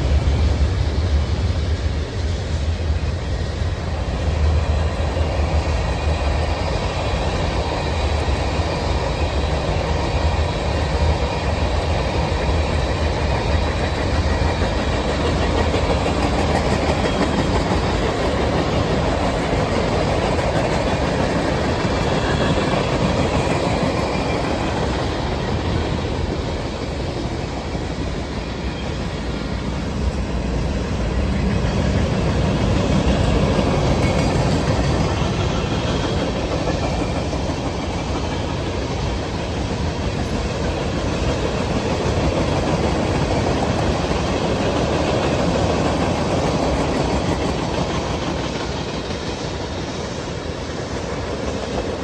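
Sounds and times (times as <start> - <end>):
freight train rumbling past: 0.0 - 52.0
steel wheels clattering on rail joints: 0.0 - 52.0.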